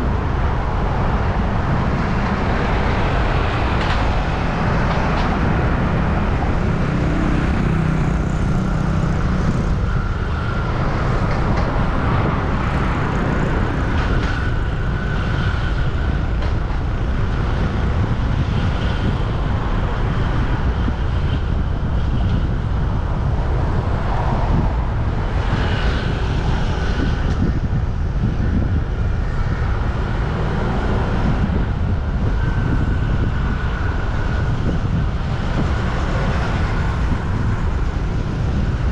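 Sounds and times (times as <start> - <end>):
passing vehicle engines: 0.0 - 38.9
street traffic rumble: 0.0 - 38.9.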